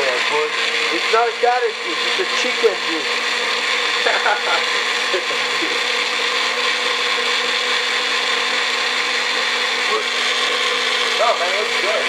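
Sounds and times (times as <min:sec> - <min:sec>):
blender motor running: 0:00.0 - 0:12.0.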